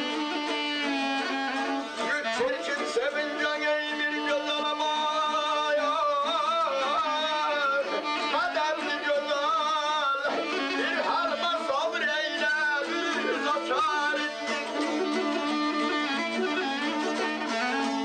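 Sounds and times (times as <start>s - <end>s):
double-reed pipe melody: 0.0s - 18.0s
plucked lute: 0.0s - 18.0s.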